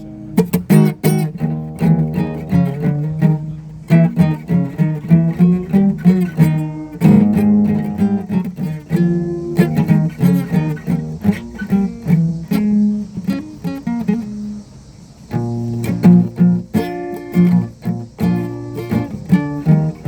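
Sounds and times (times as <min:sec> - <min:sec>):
guitar strumming and plucking: 0:00.0 - 0:20.0.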